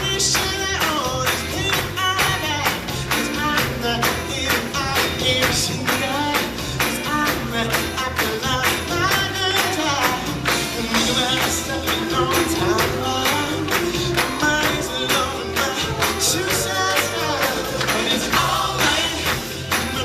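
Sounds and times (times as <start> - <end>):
live pop band music: 0.0 - 20.0
person singing: 0.0 - 20.0
tambourine-like rhythm: 0.0 - 20.0.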